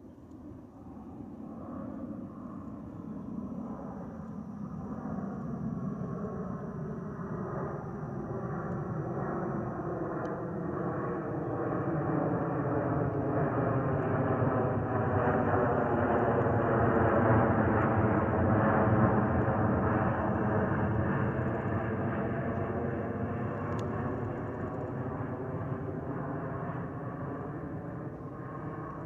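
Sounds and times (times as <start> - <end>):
jet engines roaring: 0.4 - 29.0.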